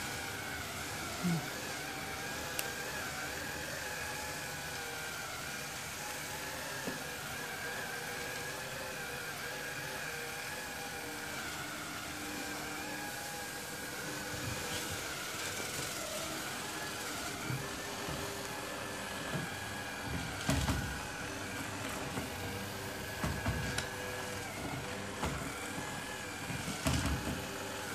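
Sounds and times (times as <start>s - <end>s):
robot vacuum cleaner running: 0.0s - 27.9s.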